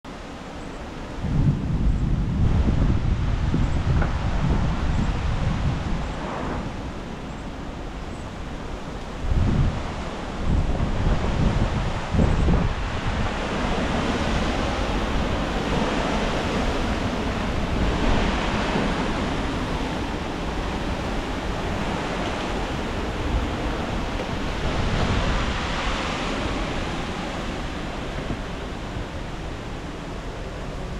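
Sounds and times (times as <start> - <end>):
gusty wind through trees: 0.0 - 30.9
wind rumble on microphone: 0.1 - 30.9.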